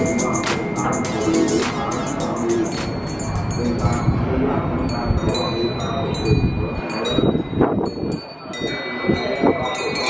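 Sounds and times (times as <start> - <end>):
small prayer bells ringing: 0.0 - 10.0.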